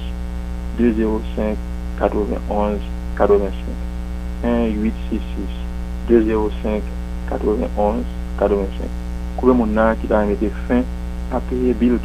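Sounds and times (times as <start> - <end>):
low electrical hum: 0.0 - 12.0
person speaking: 0.7 - 12.0.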